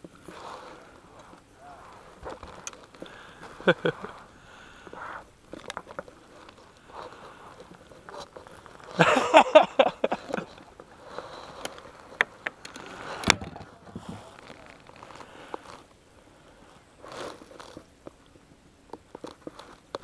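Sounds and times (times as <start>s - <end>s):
rustling and clicking of fishing gear: 0.0s - 20.0s.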